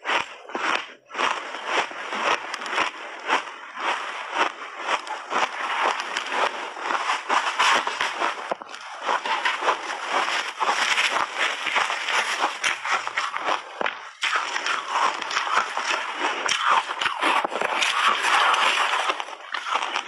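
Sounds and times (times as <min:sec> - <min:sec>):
crunching shaved ice: 0:00.0 - 0:20.0.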